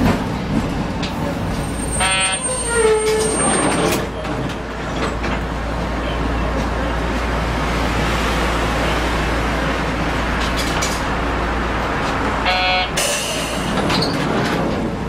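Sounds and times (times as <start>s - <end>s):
tram humming and rumbling: 0.0s - 15.0s.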